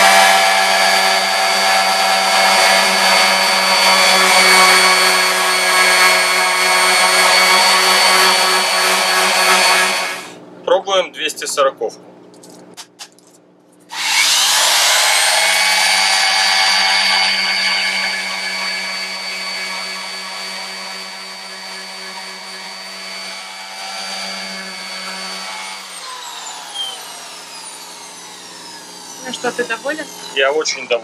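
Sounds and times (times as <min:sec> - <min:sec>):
orbital sander whining: 0:00.0 - 0:10.4, 0:13.9 - 0:31.0.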